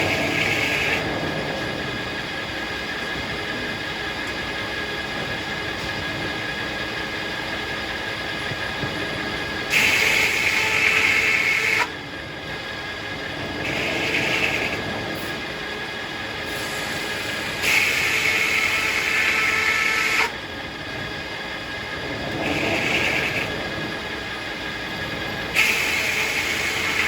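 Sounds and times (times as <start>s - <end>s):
circular sawmill whine: 0.0s - 27.0s.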